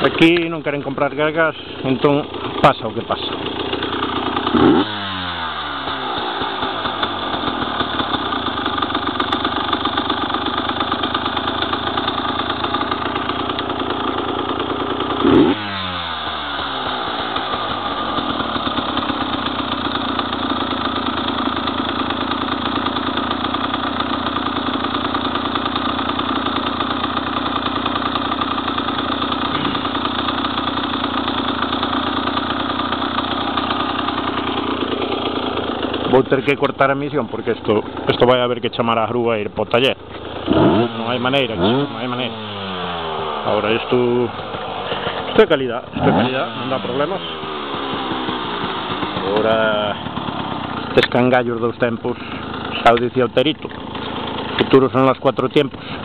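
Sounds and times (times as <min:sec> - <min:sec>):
two-stroke motorcycle engine idling: 0:00.0 - 0:56.0.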